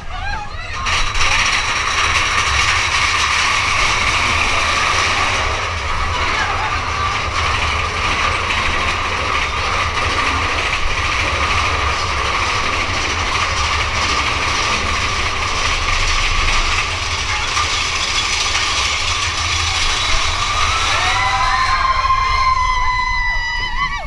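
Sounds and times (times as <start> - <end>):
roller coaster wheels rumbling: 0.0 - 24.0.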